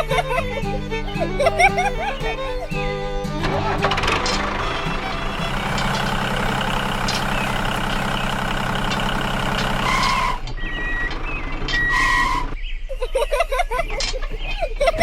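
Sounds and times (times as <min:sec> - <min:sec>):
birds chirping: 0:00.0 - 0:15.0
tractor engine running: 0:00.2 - 0:12.6.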